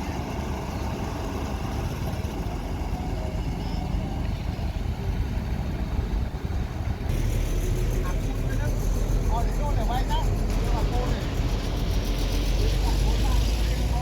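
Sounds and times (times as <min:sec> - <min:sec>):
heavy truck engine idling: 0:00.0 - 0:14.0.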